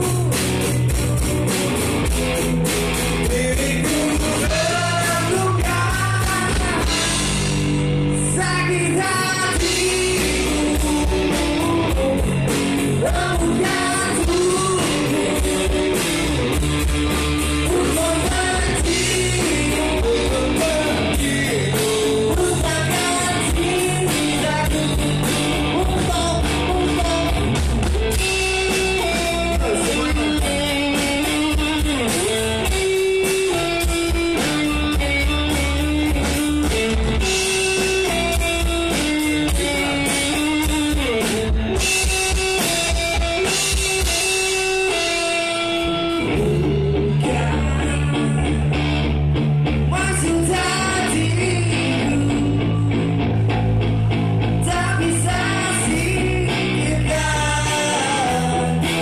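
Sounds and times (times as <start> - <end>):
person singing: 0.0 - 0.6, 3.2 - 7.4, 8.1 - 16.4, 17.5 - 36.0, 36.7 - 48.9, 49.9 - 53.4, 54.6 - 59.0
drum kit steady beat: 0.0 - 48.9
electric guitar: 0.0 - 59.0.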